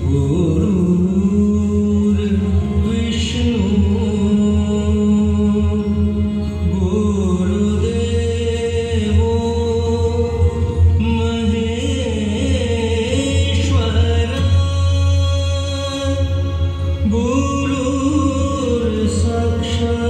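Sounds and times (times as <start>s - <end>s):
man singing classical melody: 0.0s - 20.0s.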